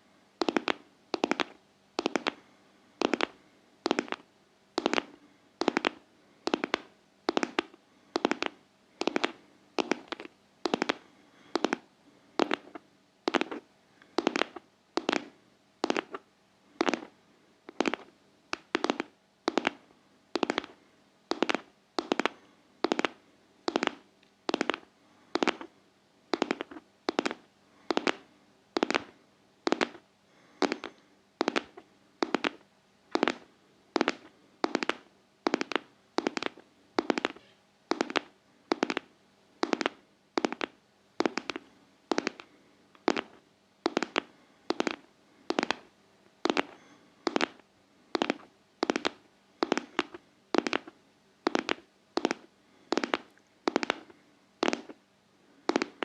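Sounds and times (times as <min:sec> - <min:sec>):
crisp tapping: 0:00.4 - 0:02.4, 0:03.0 - 0:11.8, 0:12.4 - 0:16.2, 0:16.8 - 0:17.1, 0:17.7 - 0:19.8, 0:20.4 - 0:25.7, 0:26.3 - 0:28.2, 0:28.8 - 0:29.1, 0:29.7 - 0:30.0, 0:30.6 - 0:32.6, 0:33.2 - 0:47.6, 0:48.2 - 0:50.9, 0:51.5 - 0:55.0, 0:55.7 - 0:56.0.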